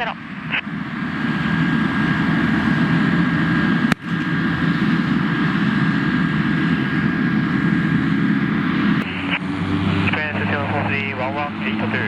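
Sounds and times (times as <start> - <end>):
jet engine rumble and whine: 0.0 - 12.0.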